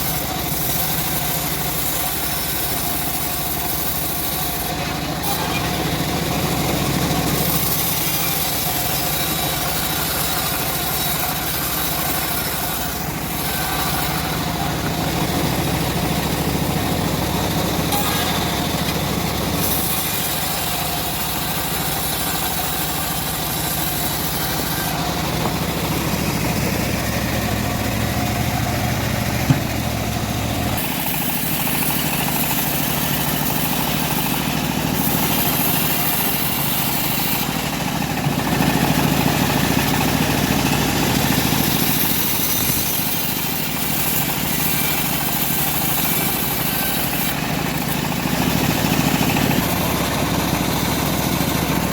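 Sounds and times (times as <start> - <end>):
bandsaw mill engine running: 0.0 - 51.9.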